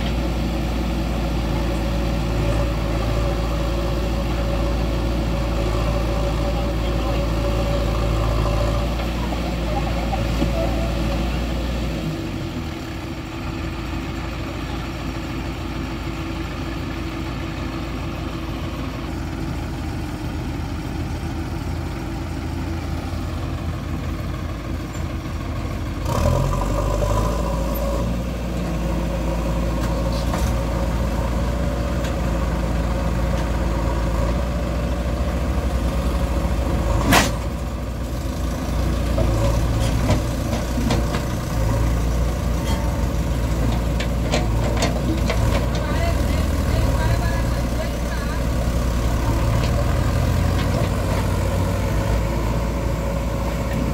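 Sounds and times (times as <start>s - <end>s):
diesel engines running: 0.0s - 53.9s
tractor engine pulling away: 0.0s - 53.9s.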